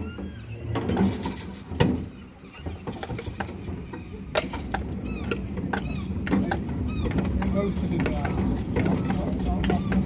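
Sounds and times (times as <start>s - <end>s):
horse hooves clip-clopping: 1.0s - 10.0s.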